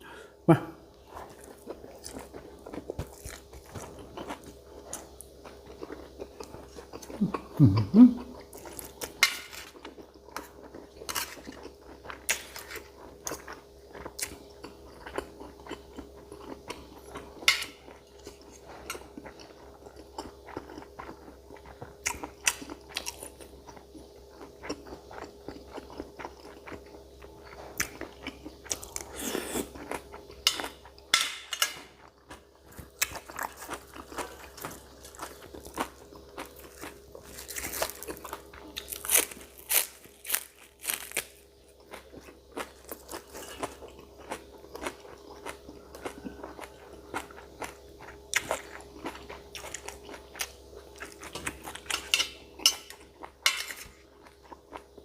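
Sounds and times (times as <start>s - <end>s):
faint steady hum: 0.0s - 55.0s
wet chewing and crunching: 1.0s - 7.6s, 8.2s - 55.0s.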